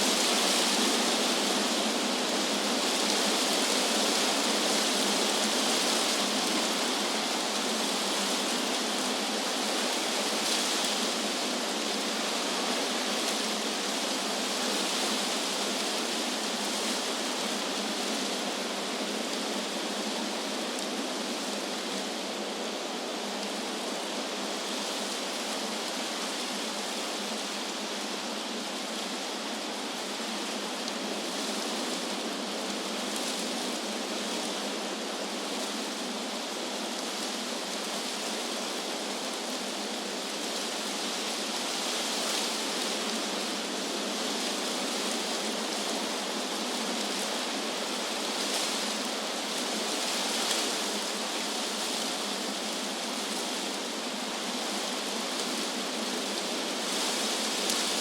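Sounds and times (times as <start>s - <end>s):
wind rushing through leaves: 0.0s - 58.0s.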